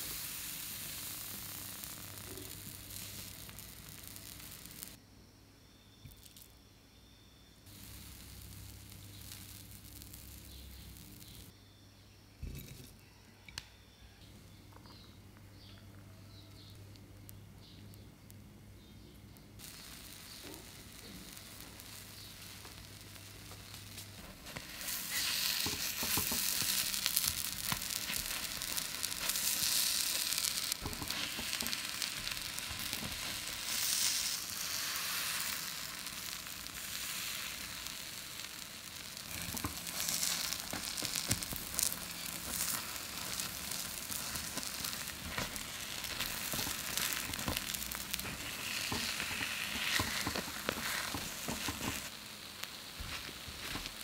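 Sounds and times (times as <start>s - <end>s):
batter sizzling in a hot pan: 0.0s - 5.0s, 6.1s - 6.5s, 7.6s - 11.5s, 18.8s - 54.0s.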